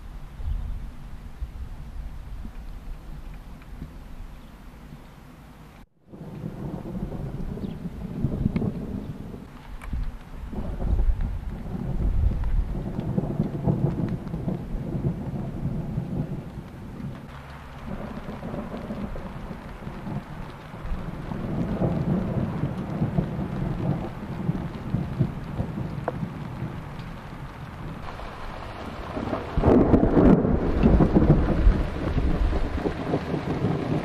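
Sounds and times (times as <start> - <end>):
distant thunder rumbling: 6.1 - 34.0.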